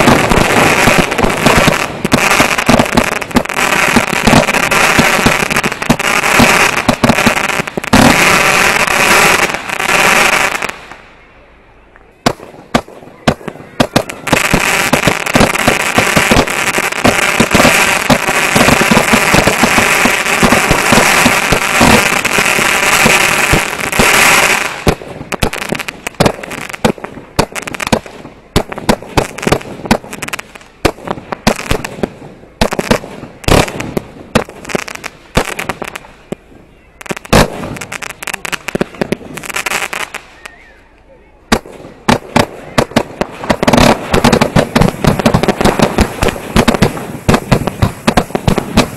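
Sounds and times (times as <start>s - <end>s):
fireworks cracks and pops: 0.0s - 11.1s, 12.2s - 40.6s, 41.5s - 48.9s
fireworks hissing roar: 0.0s - 11.1s, 12.2s - 40.7s, 41.5s - 48.9s
loud fireworks bangs: 0.0s - 11.1s, 12.2s - 40.7s, 41.5s - 48.9s.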